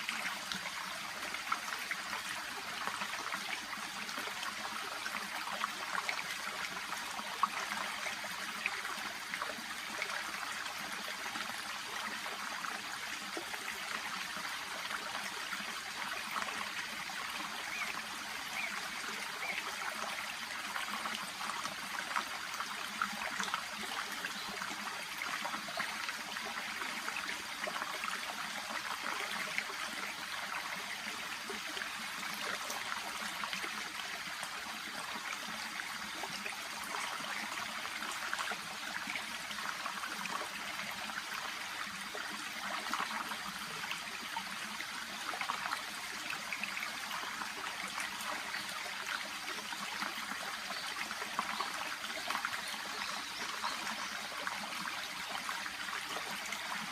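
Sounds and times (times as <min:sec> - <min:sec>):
brook babbling over stones: 0:00.0 - 0:56.9.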